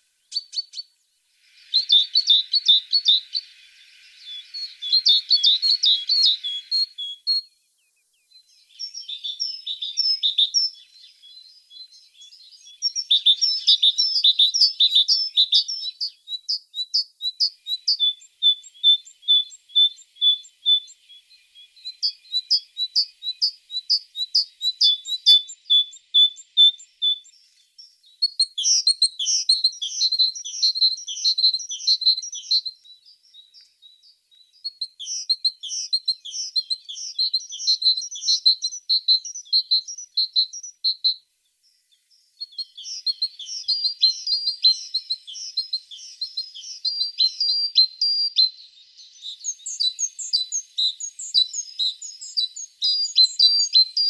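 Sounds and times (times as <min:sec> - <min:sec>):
tits singing: 0:00.0 - 0:07.6, 0:08.4 - 0:41.1, 0:42.4 - 0:54.0.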